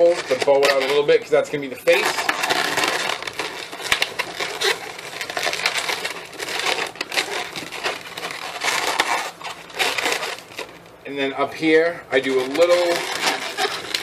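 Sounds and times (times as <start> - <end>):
balloons rubbing and squeaking: 0.0 - 14.0.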